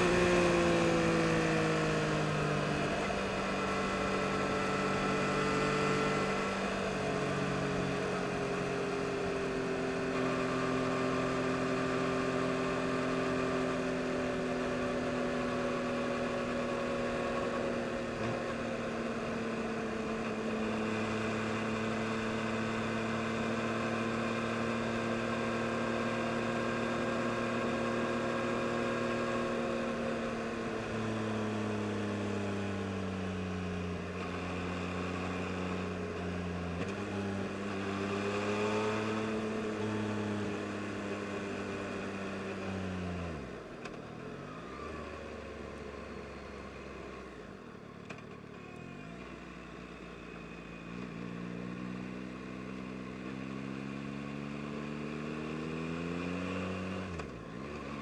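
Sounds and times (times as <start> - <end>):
motorcycle engine slowing through gears: 0.0 - 58.0.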